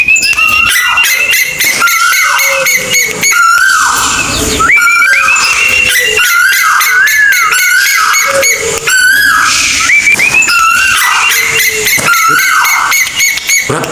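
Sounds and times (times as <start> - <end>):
bird whistled notes: 0.0 - 13.8
bird clicking chatter: 0.0 - 13.9.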